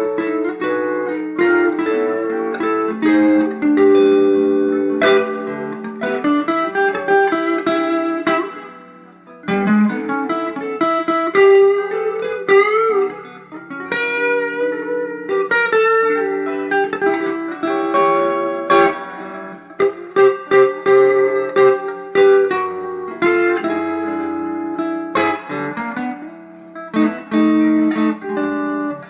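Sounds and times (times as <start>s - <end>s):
electric guitar single notes: 0.0s - 29.0s.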